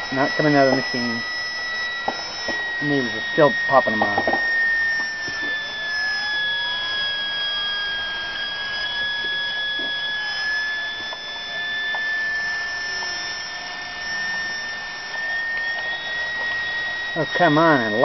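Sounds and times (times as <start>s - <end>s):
turbine spinning with high whine: 0.0s - 18.0s.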